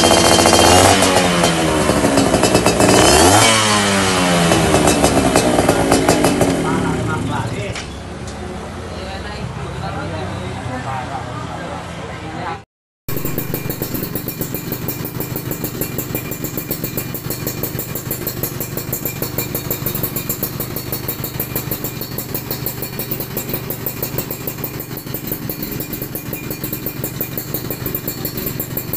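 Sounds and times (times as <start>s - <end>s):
two-stroke engine idling: 0.0s - 7.7s, 13.1s - 28.9s.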